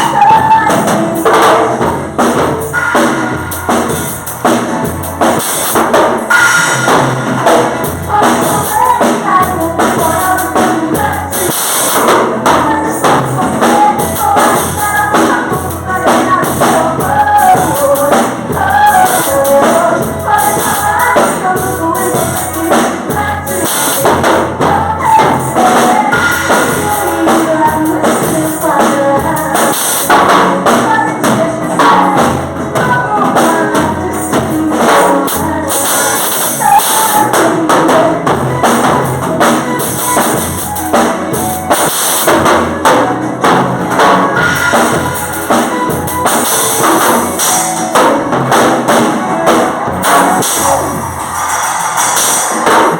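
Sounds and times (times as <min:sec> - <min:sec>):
upbeat pop song with singing: 0:00.0 - 0:04.6, 0:06.8 - 0:52.9
drum-kit beat: 0:00.0 - 0:52.9.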